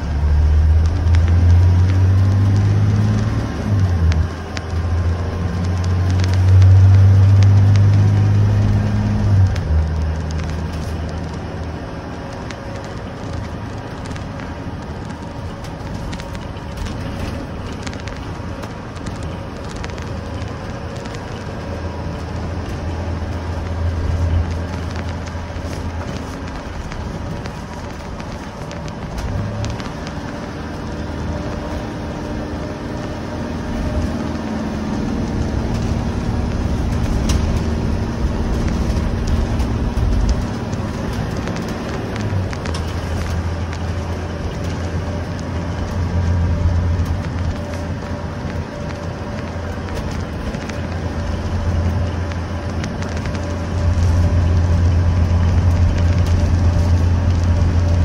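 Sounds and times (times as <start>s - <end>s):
diesel bus engine running: 0.0s - 58.0s
road and tyre noise: 0.0s - 58.0s.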